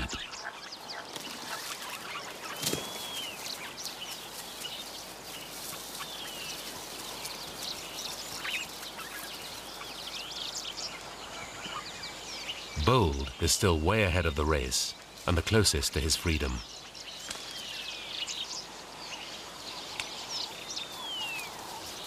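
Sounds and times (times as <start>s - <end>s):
birds chirping: 0.0s - 22.0s
steady background hiss: 2.4s - 22.0s.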